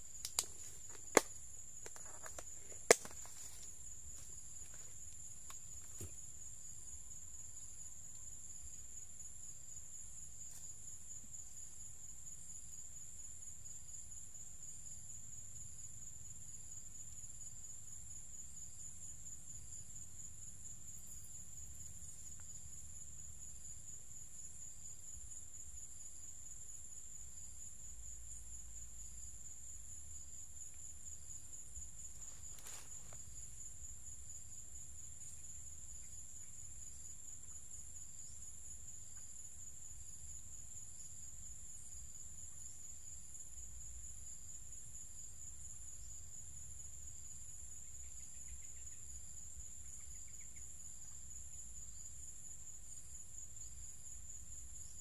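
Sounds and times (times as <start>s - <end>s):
insects trilling: 0.0s - 55.0s
pulsing insect call: 0.0s - 55.0s.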